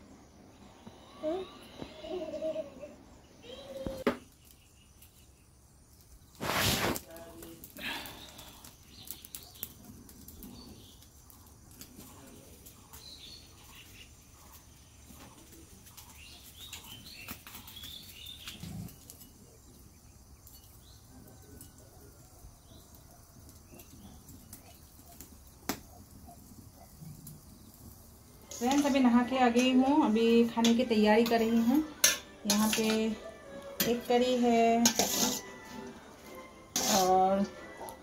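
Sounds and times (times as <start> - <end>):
birds chirping: 0.0 - 6.8, 7.8 - 32.0
wood fire crackling: 0.0 - 38.0.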